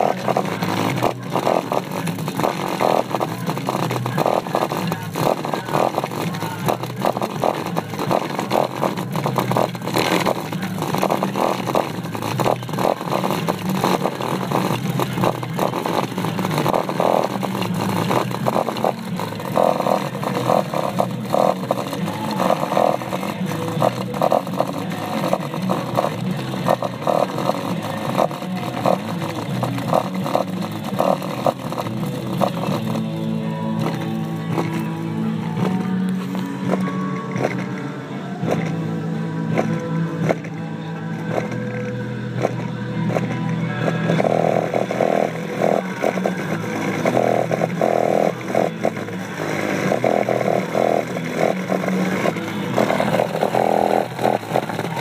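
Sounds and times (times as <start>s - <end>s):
distorted buzzing subwoofer bass: 0.0s - 55.0s.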